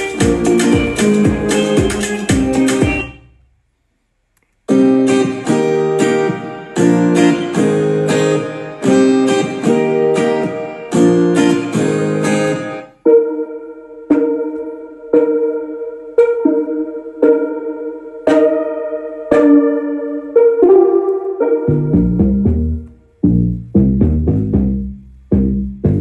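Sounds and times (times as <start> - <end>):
clean plucked guitar tone: 0.0 - 3.2, 4.7 - 26.0
plucked guitar rhythmic chords: 0.0 - 3.4, 4.6 - 26.0.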